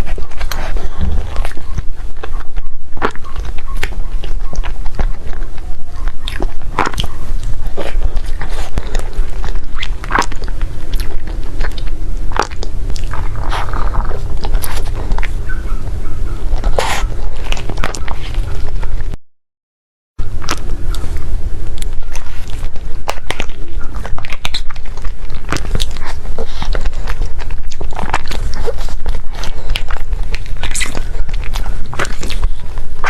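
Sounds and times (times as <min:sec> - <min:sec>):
chewing cake crunches: 0:00.0 - 0:19.2, 0:20.2 - 0:33.0
heavy low rumble: 0:00.0 - 0:19.2, 0:20.2 - 0:33.0.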